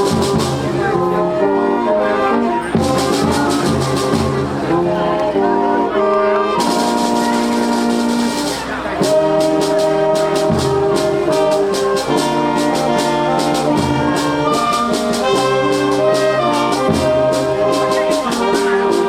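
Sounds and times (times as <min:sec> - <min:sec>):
steady percussion beat: 0:00.0 - 0:01.2, 0:02.7 - 0:05.2, 0:06.6 - 0:19.0
brass sustained chords: 0:00.0 - 0:19.0.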